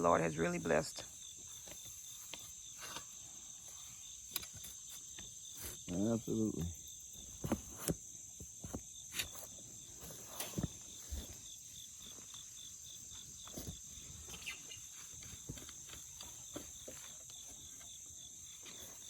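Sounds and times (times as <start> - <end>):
insects chirping: 0.0 - 19.0
soft knocks and rustles in soil: 1.1 - 19.0.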